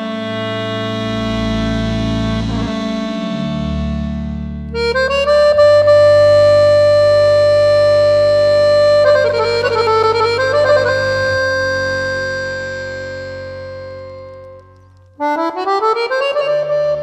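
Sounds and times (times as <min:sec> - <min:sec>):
lead melody: 0:00.0 - 0:17.0
sustained low bass notes: 0:00.0 - 0:17.0.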